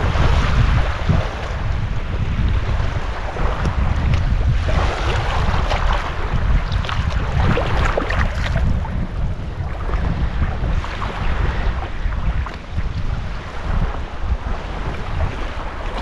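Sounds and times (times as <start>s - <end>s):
strong wind on microphone: 0.0s - 16.0s
waves splashing and lapping: 0.0s - 16.0s.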